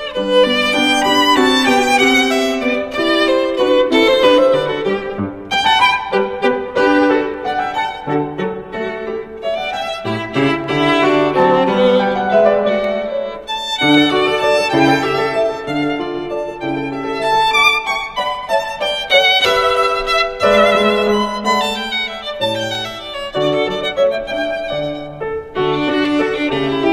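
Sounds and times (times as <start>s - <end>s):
violin melody with accompaniment: 0.0s - 26.9s.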